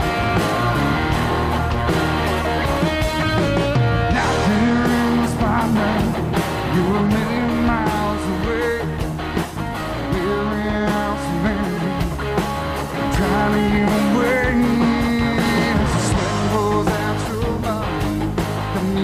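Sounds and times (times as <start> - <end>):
electric guitar bending notes: 0.0 - 19.0
rock band playing live: 0.0 - 19.0.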